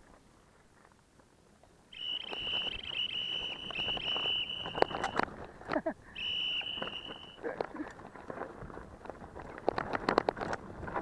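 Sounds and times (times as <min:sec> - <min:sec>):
bike rattling on rocky trail: 0:02.0 - 0:11.0.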